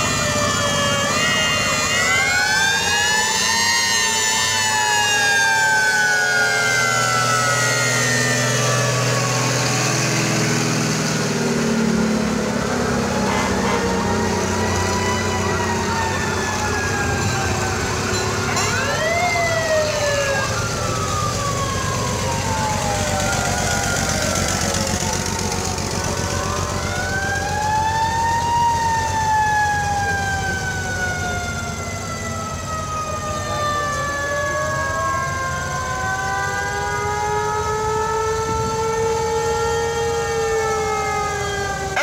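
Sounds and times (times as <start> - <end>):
fire truck sirens winding: 0.0 - 42.0
low truck engines running: 0.0 - 42.0.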